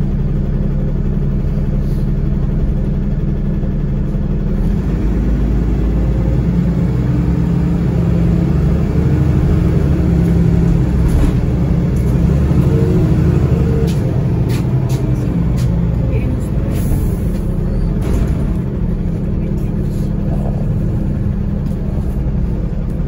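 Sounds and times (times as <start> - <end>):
bus engine drone: 0.0 - 23.0
road rumble: 0.0 - 23.0.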